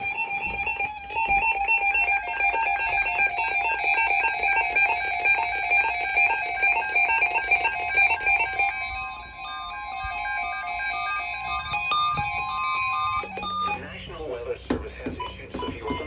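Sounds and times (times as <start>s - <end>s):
fast melody of high notes: 0.0s - 13.8s.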